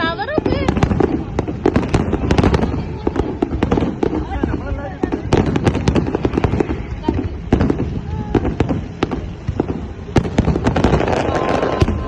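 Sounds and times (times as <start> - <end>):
fireworks bangs and crackles: 0.0 - 12.0
voices: 0.0 - 12.0.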